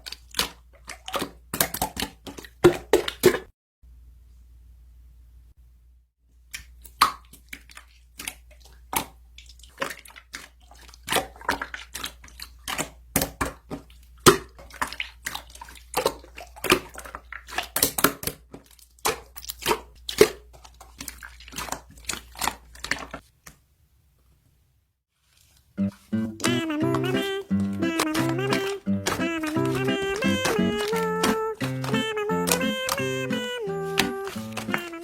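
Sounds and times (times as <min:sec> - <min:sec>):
hands squishing slime: 0:00.0 - 0:03.5, 0:06.4 - 0:23.6, 0:25.2 - 0:35.0.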